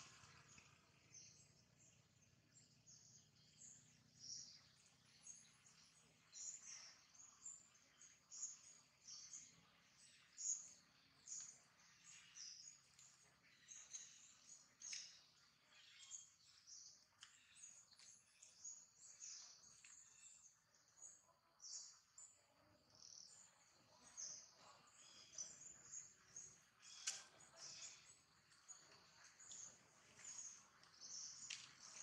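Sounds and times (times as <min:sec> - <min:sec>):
faint high bird chirps: 0:00.0 - 0:32.0
quiet forest ambience: 0:00.0 - 0:32.0.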